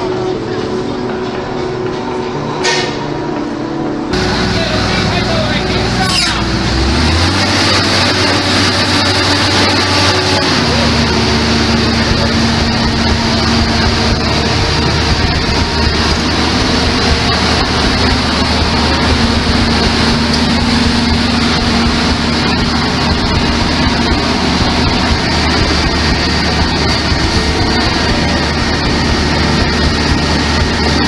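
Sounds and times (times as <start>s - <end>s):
diesel engine idling: 4.1s - 31.0s.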